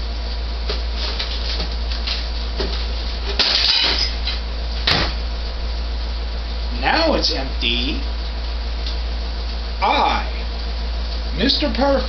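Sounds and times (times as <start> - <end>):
refrigerator low hum: 0.0 - 12.0.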